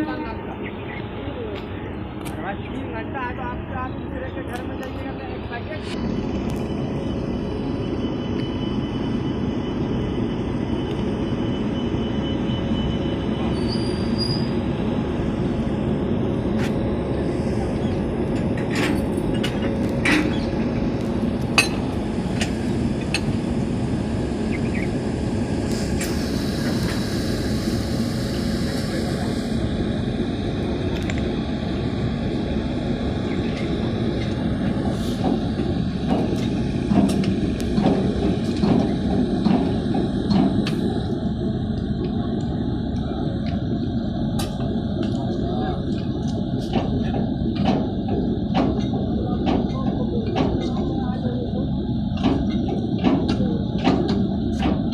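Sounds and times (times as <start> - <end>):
locomotive rumble: 0.0 - 54.9.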